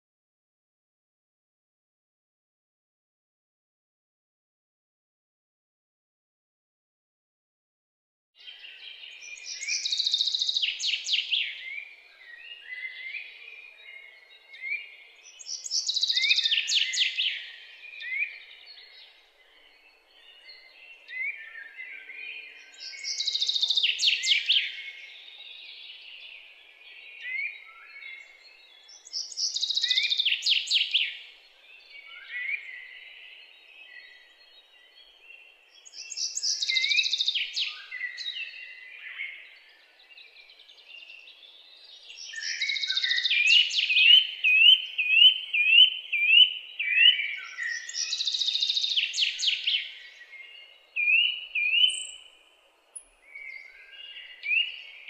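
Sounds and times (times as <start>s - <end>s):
soft bird chirps: 8.4s - 55.0s
songbird singing: 8.4s - 55.0s.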